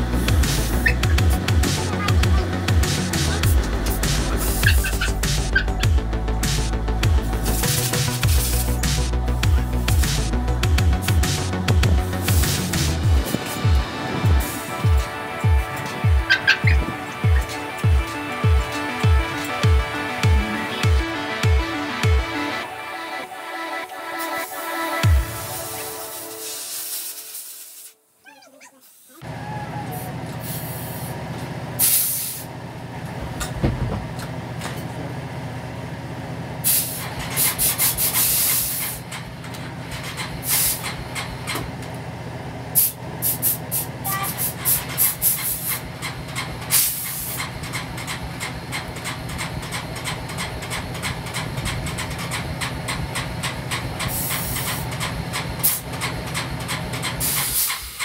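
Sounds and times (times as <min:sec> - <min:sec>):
quad engine running: 0:00.0 - 0:22.5, 0:29.2 - 0:57.6.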